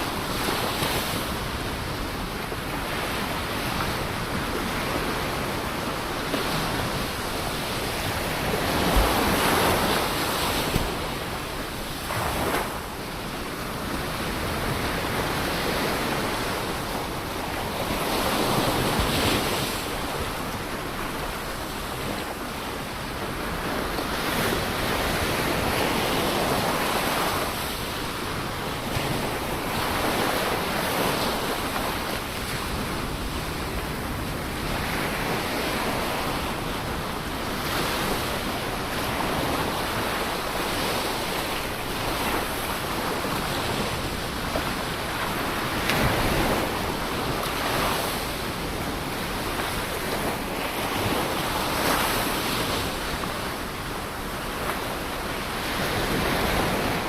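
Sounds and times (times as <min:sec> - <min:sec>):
ocean waves breaking on shore: 0:00.0 - 0:57.0
wind on microphone: 0:00.0 - 0:57.0.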